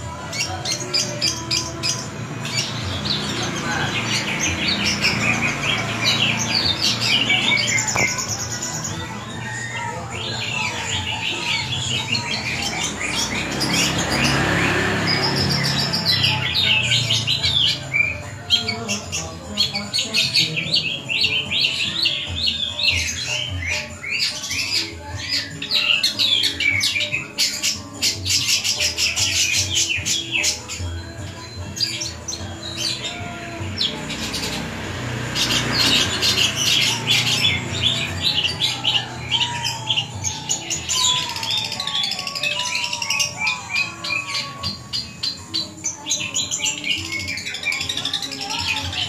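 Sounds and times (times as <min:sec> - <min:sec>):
bird singing chirps and trills: 0:00.0 - 0:49.0.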